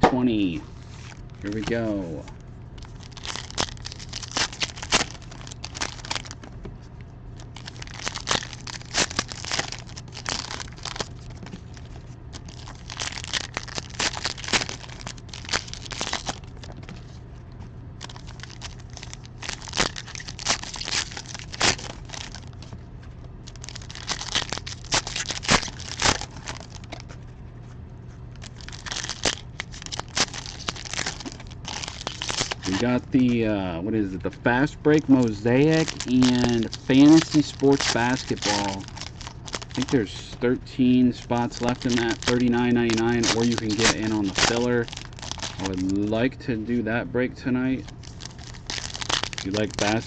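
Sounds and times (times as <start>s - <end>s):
foil wrappers crinkling and tearing: 0.8s - 2.0s, 2.8s - 6.5s, 7.4s - 17.2s, 18.0s - 22.7s, 23.4s - 27.2s, 28.3s - 33.0s, 34.9s - 40.4s, 41.1s - 46.2s, 47.8s - 50.0s.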